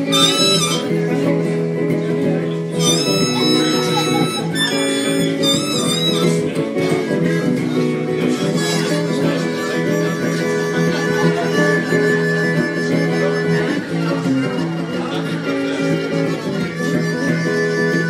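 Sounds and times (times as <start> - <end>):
electric guitar: 0.0 - 18.0
harmonica long notes: 0.0 - 18.0.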